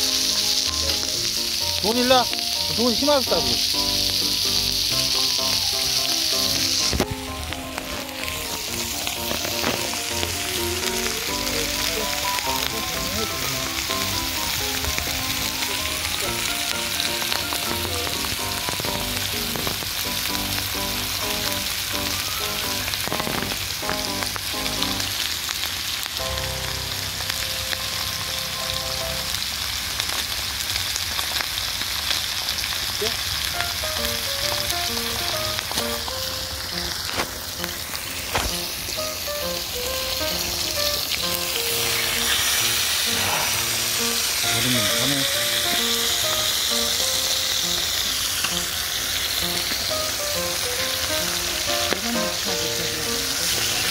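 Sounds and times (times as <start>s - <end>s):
background melody: 0.0s - 25.3s, 26.2s - 29.6s, 33.6s - 53.9s
meat sizzling on griddle: 0.0s - 53.9s.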